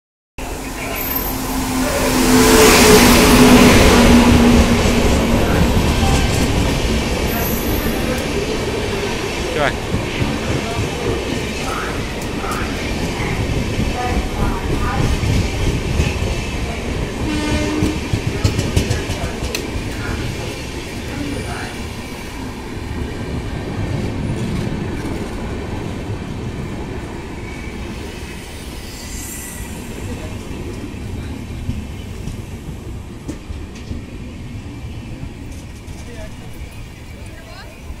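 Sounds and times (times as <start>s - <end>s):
train passing at speed: 0.4s - 38.0s
train wheels rumbling on rails: 0.4s - 38.0s.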